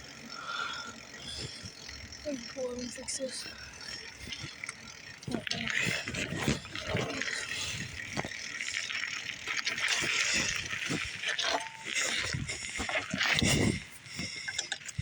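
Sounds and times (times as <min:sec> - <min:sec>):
bicycle rattling and clicking: 0:00.0 - 0:15.0.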